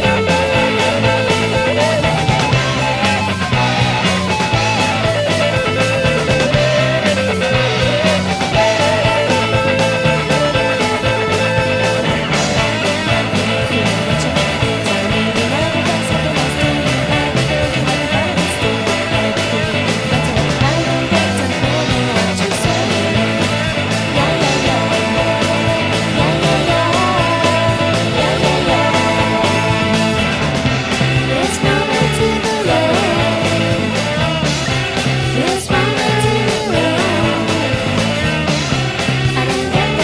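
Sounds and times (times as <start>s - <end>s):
distorted electric guitars: 0.0s - 40.0s
drums at a steady beat: 0.0s - 40.0s.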